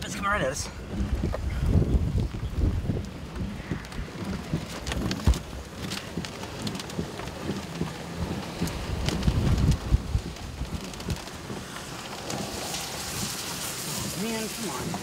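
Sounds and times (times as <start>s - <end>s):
rain patter on car: 0.0s - 15.0s
wind buffeting car: 0.0s - 15.0s.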